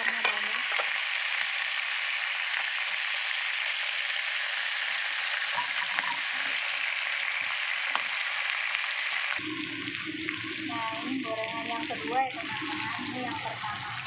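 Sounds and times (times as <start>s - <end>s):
eggplant sizzling in hot oil: 0.0s - 14.0s.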